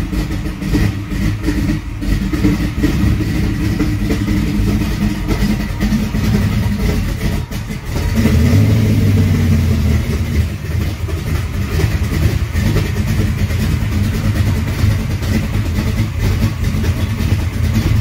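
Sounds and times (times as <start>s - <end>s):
car engine running slowly: 0.0s - 18.0s.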